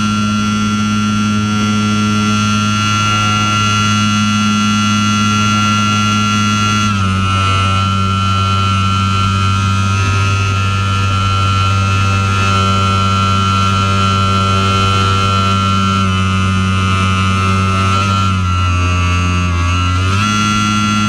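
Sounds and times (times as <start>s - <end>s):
low hum: 0.0s - 21.0s
wind rushing in glider cockpit: 0.0s - 21.0s.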